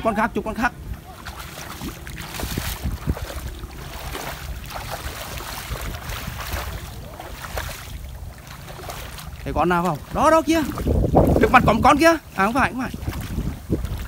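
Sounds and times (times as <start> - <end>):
wading splashes in water: 0.0 - 14.0.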